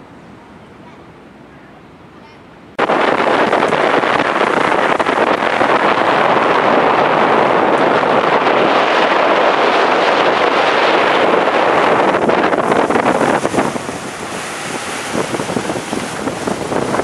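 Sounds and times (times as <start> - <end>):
wind and water rushing: 0.0 - 17.0
wind buffeting microphone: 2.7 - 17.0.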